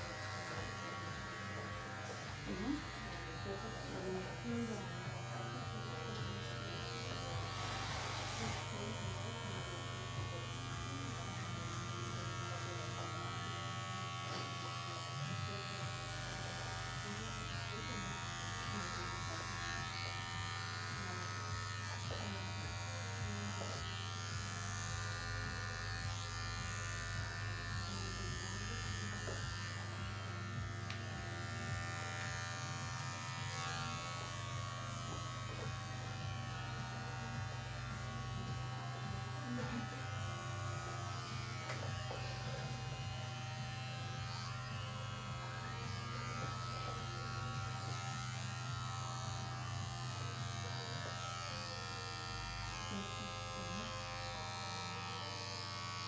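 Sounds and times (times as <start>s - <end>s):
electric hair clipper buzzing: 0.0s - 56.0s.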